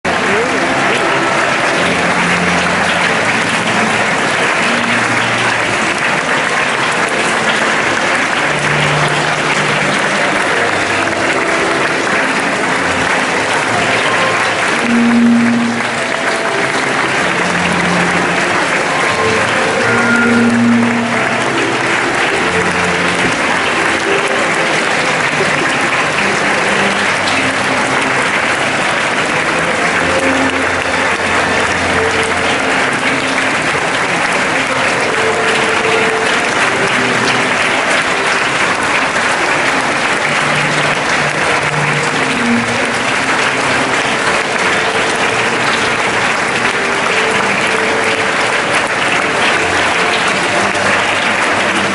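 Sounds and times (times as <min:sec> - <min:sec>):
instrumental music: 0:00.0 - 0:51.9
large crowd applauding: 0:00.0 - 0:51.9.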